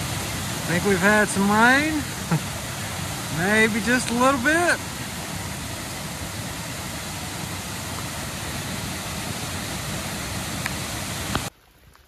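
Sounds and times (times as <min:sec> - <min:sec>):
creek rushing over rocks: 0:00.0 - 0:12.0.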